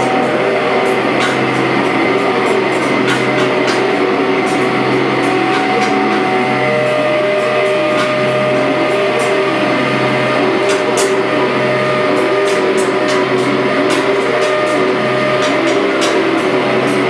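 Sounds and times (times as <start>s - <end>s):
noise music drone: 0.0s - 17.0s.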